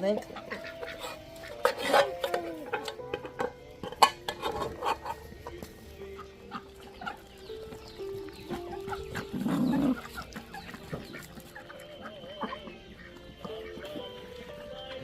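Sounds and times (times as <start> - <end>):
chickens clucking: 0.0 - 15.0
slow melodic background music: 0.0 - 15.0.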